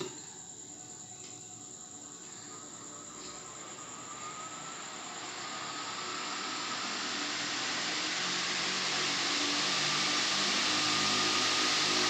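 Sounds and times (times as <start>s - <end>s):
ceiling fan air rush: 0.2s - 12.0s.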